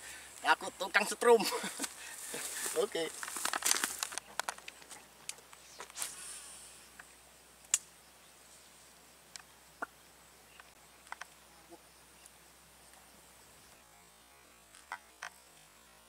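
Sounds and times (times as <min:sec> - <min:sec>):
faint insect buzz: 0:00.0 - 0:16.0.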